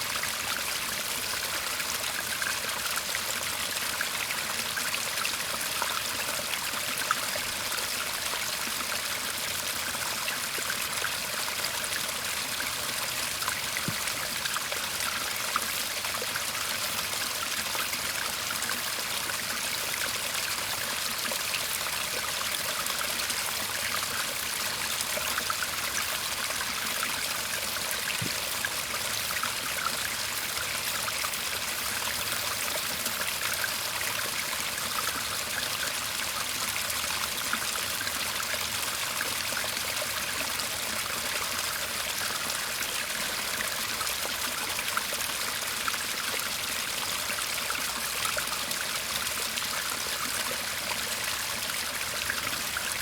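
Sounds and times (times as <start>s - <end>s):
stream babbling and trickling: 0.0s - 53.0s.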